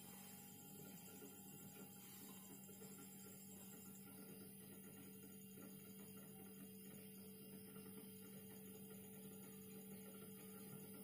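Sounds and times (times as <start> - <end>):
refrigerator compressor hum: 0.0 - 11.0.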